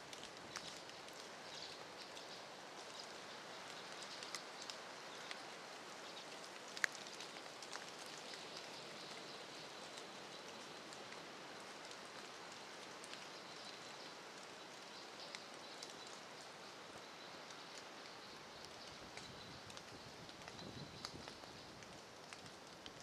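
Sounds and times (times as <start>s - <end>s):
light rain on leaves: 0.0s - 23.0s.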